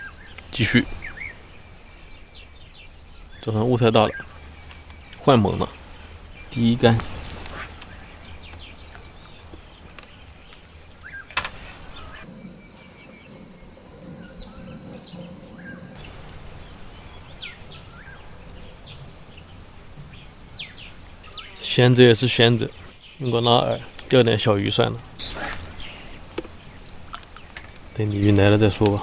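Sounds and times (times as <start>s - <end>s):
bird chirps: 0.0s - 29.0s
insects trilling: 0.0s - 29.0s.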